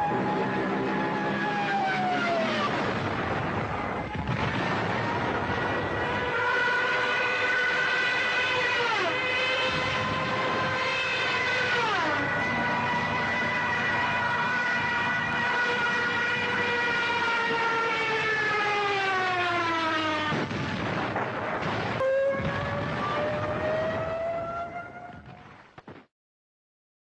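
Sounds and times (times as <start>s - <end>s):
multi-toned whine: 0.0s - 25.3s.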